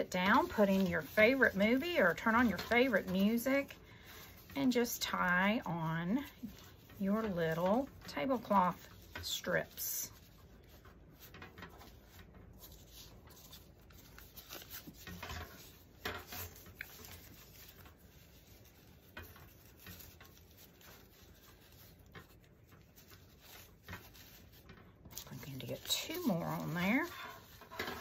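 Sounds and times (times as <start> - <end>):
plastic strips rustling and crinkling: 0.0 - 28.0.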